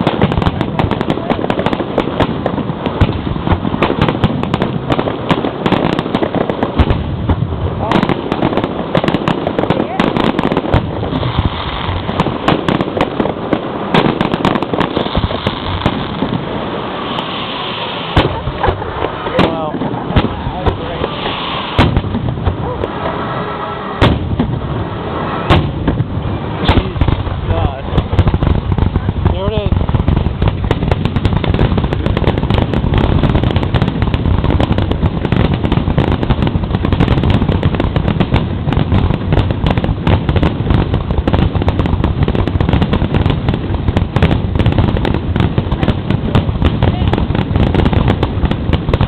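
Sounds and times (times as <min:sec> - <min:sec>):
fireworks bangs and cracks: 0:00.0 - 0:49.0.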